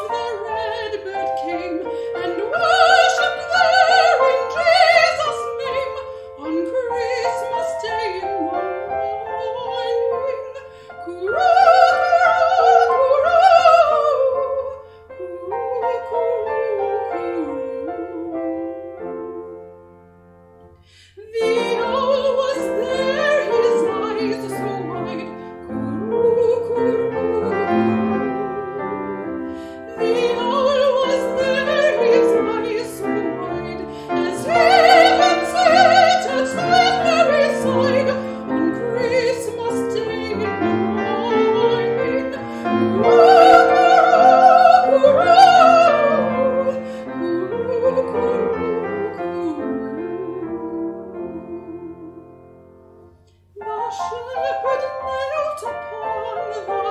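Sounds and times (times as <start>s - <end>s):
piano accompaniment: 0.0s - 56.9s
soprano singing: 0.0s - 56.9s.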